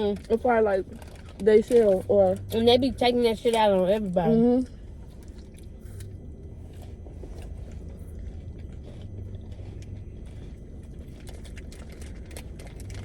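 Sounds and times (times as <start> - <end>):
car cabin rumble while driving: 0.0 - 13.0
faint low hum: 0.0 - 13.0.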